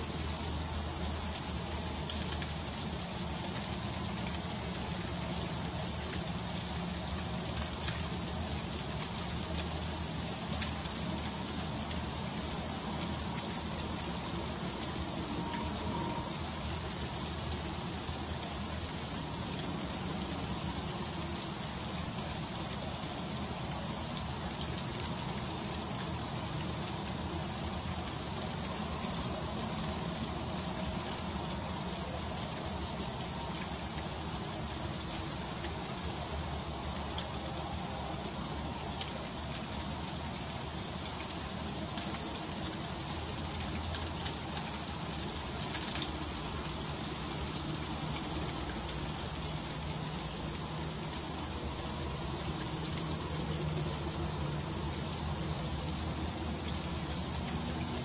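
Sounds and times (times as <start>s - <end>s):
freezing rain on ice: 0.0s - 58.0s.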